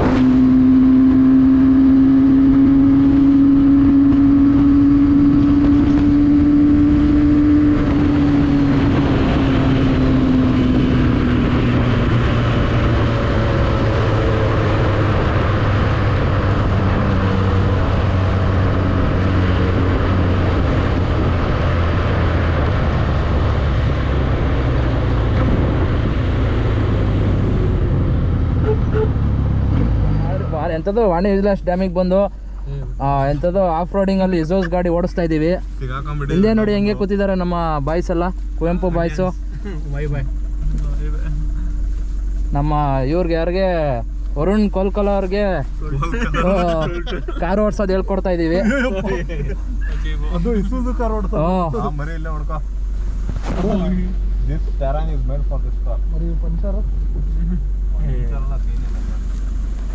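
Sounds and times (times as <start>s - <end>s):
pickup engine: 0.0s - 59.9s
road and tyre noise: 0.0s - 59.9s.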